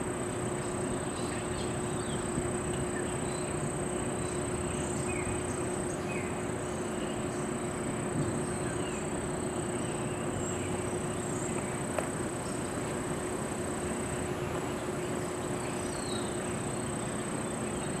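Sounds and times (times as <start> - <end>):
constant low hum: 0.0 - 18.0.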